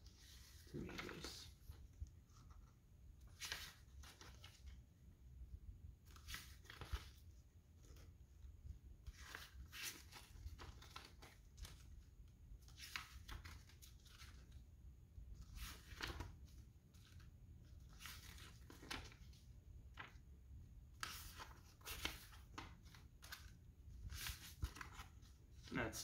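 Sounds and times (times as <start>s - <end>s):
paper pages turning: 0.0s - 4.8s, 6.0s - 8.1s, 9.0s - 12.0s, 12.6s - 14.6s, 15.4s - 20.2s, 20.9s - 25.7s.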